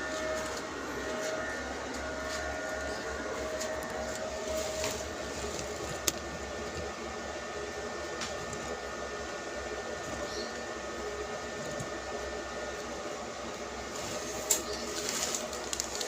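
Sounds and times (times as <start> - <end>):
machine whirring: 0.0 - 16.0.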